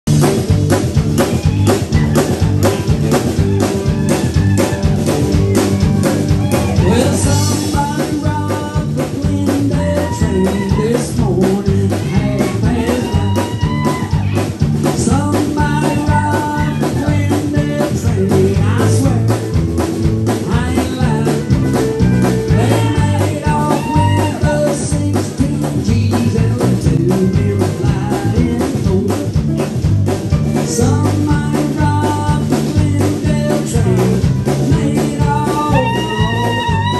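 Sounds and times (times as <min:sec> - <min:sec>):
bass guitar: 0:00.0 - 0:36.9
drum kit: 0:00.0 - 0:36.9
electric guitar: 0:00.1 - 0:36.9.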